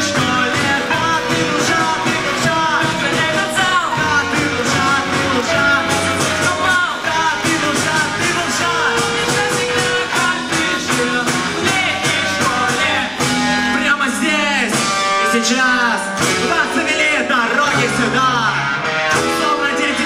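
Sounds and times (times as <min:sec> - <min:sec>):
rock song with singing: 0:00.0 - 0:20.0.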